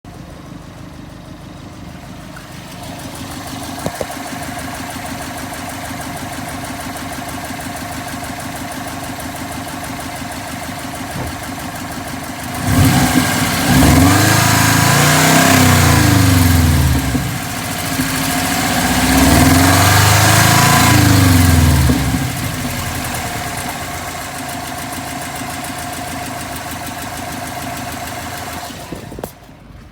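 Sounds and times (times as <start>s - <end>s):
car engine idling and revving: 0.1s - 29.9s.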